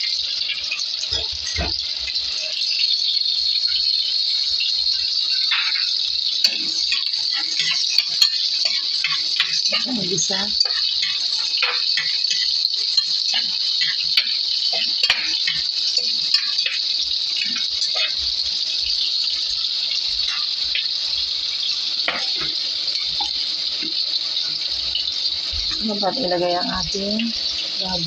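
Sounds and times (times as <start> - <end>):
shallots sizzling in hot oil: 0.0 - 28.0
spatula stirring against pot: 0.0 - 28.0.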